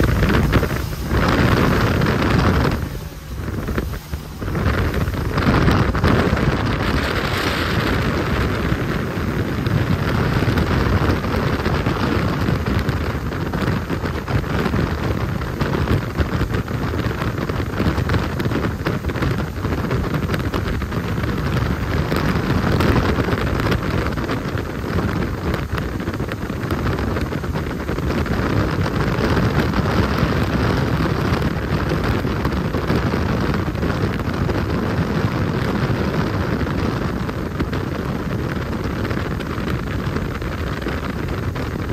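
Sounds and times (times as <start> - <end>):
jet boat engine and water rush: 0.0 - 41.9
wind buffeting microphone: 0.0 - 41.9.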